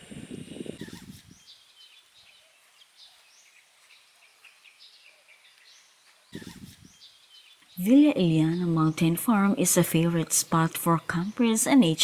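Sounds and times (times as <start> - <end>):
small birds chirping: 0.1 - 12.0.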